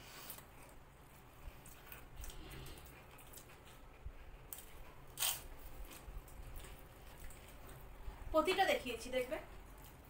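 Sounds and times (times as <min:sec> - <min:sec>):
chewing crisp shells: 0:00.2 - 0:08.0, 0:09.6 - 0:10.0.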